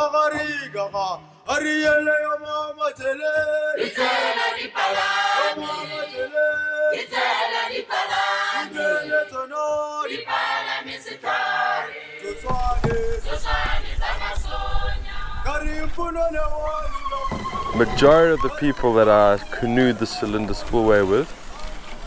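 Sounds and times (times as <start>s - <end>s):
choir singing: 3.0s - 21.2s.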